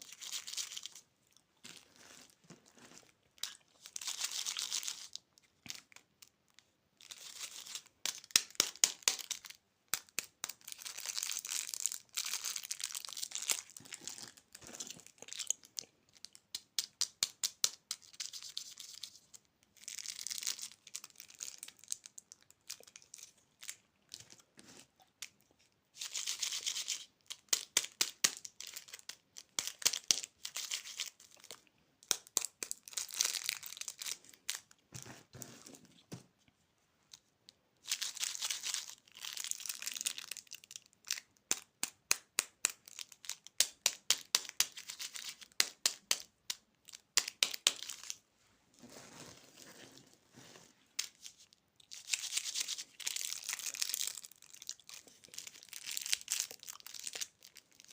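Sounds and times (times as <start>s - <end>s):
candy wrappers crinkling: 0.0s - 34.8s, 37.8s - 48.3s, 50.9s - 57.9s.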